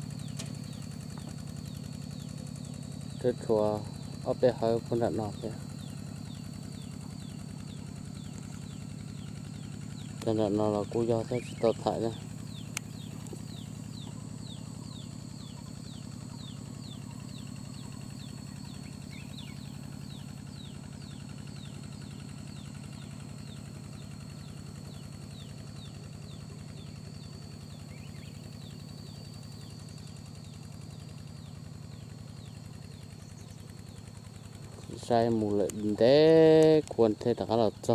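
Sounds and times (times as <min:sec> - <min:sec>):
bird calling with high notes: 0:00.0 - 0:36.7
steady low hum: 0:00.0 - 0:37.9.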